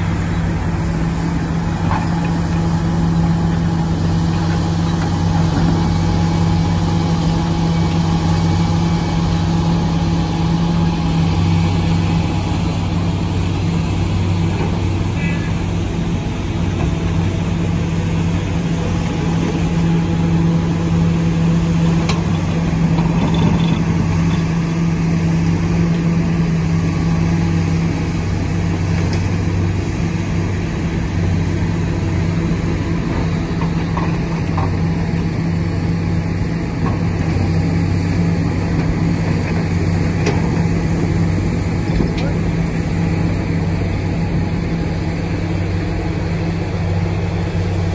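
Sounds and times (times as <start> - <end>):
diesel engine running steadily: 0.0 - 47.9.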